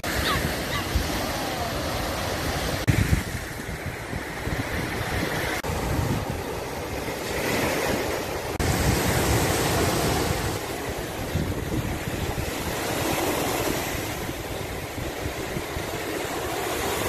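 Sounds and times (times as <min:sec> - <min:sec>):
small waves washing on beach: 0:00.0 - 0:17.0
wind buffeting the microphone: 0:00.0 - 0:17.0.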